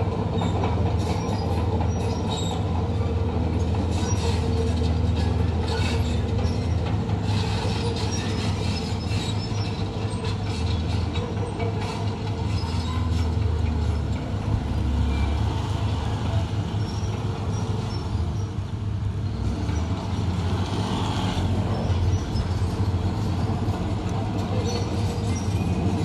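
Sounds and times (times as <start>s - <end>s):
diesel machinery engine drone: 0.0s - 26.0s.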